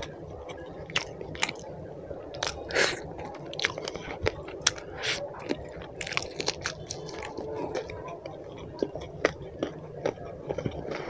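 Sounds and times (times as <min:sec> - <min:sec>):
wet chewing and mouth smacks: 0:00.0 - 0:01.7, 0:02.3 - 0:11.0.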